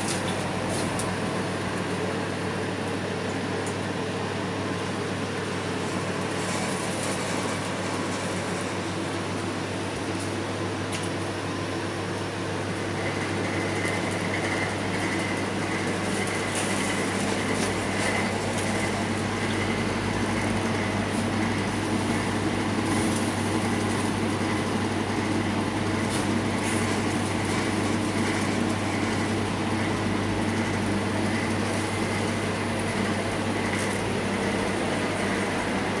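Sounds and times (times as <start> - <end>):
grill machine hum: 0.0 - 36.0.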